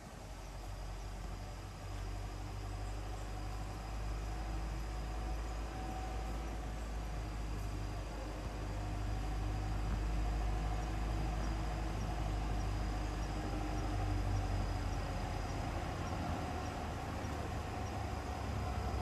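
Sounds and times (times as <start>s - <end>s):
road train engine humming: 0.0s - 19.0s.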